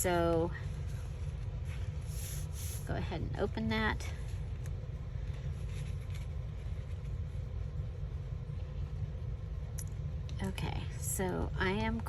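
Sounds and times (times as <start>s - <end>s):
faint hum: 0.0s - 12.0s
low background rumble: 0.0s - 12.0s.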